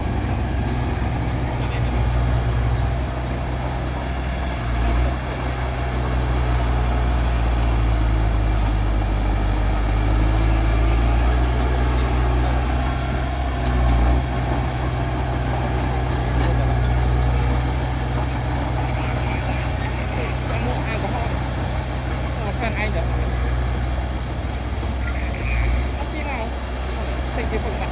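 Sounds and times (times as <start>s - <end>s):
heavy diesel engine droning: 0.0s - 27.9s.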